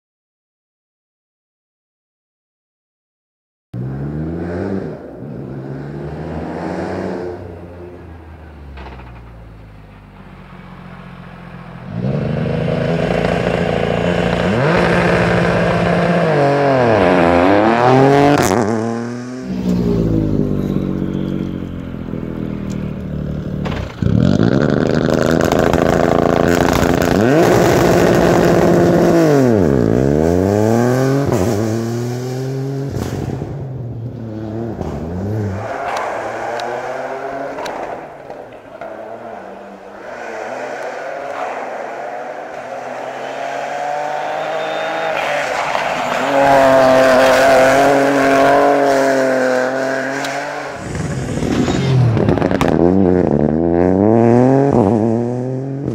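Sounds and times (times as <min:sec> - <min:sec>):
car engine revving hard: 0:03.8 - 0:08.2, 0:11.8 - 0:21.6, 0:23.9 - 0:33.5, 0:34.2 - 0:55.9.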